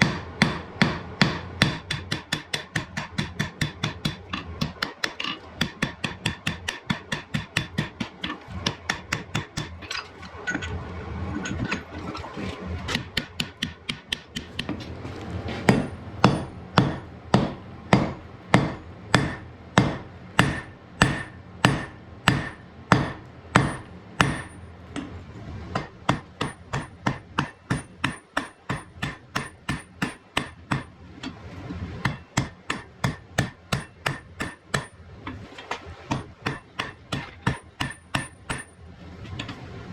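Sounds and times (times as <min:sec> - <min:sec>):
hammer striking iron on anvil: 0:00.0 - 0:10.7, 0:12.9 - 0:14.8, 0:15.7 - 0:25.1, 0:25.7 - 0:31.0, 0:32.0 - 0:35.0, 0:36.1 - 0:38.8.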